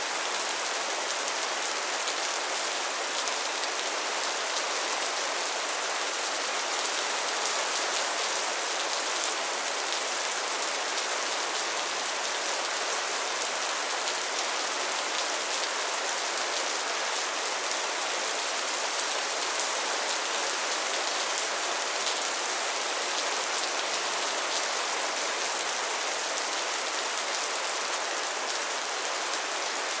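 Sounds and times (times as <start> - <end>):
rain falling steadily: 0.0 - 30.0.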